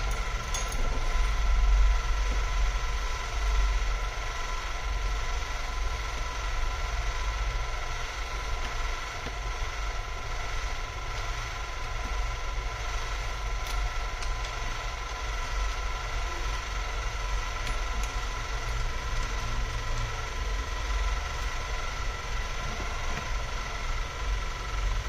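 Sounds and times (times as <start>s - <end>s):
machine hum with high whine: 0.0s - 25.0s.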